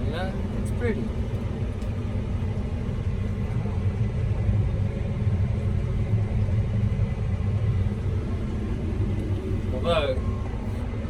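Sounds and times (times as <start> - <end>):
combine harvester rumbling: 0.0 - 11.0.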